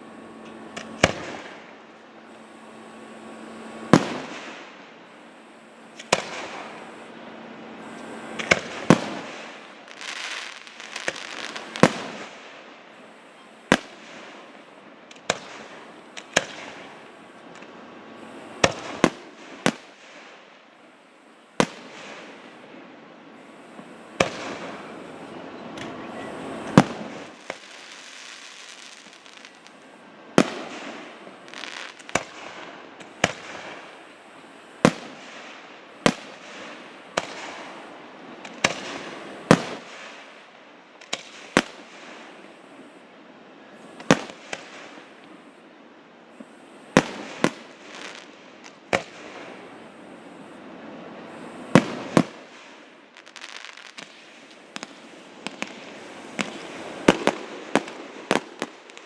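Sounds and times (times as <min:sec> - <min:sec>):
aerial fireworks bursting: 0:00.0 - 0:59.0.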